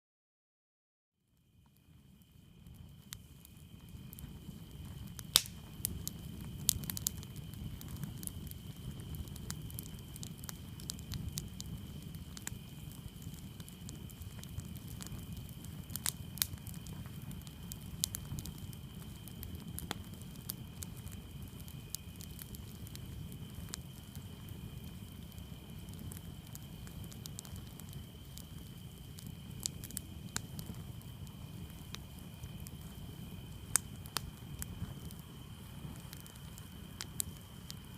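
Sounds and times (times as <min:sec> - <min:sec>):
campfire crackling and popping: 0:01.4 - 0:37.9
crickets chirping: 0:01.4 - 0:37.9.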